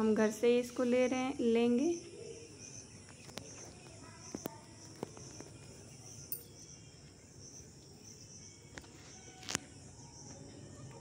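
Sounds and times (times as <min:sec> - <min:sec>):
insects chirping: 0:00.0 - 0:10.9.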